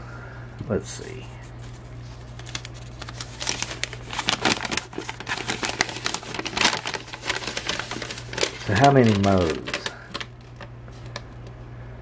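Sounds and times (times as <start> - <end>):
paper crinkling and rustling: 1.4 - 11.5.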